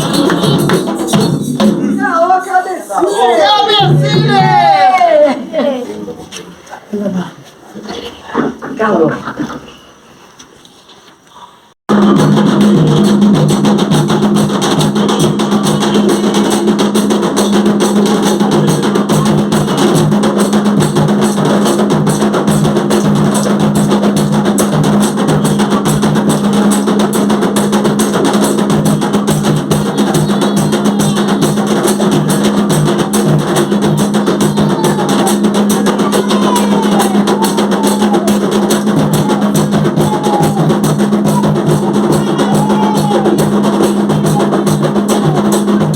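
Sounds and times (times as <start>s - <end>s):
drum-led percussion music: 0.0s - 5.6s, 11.9s - 45.9s.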